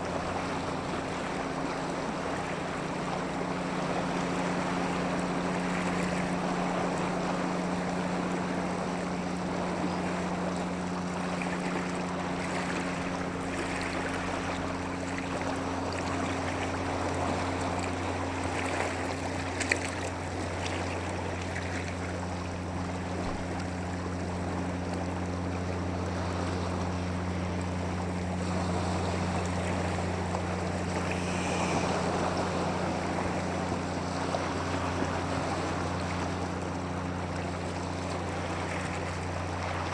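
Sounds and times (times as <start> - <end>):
low steady hum: 0.0 - 39.9
water rushing: 0.0 - 39.9
wind: 0.0 - 39.9.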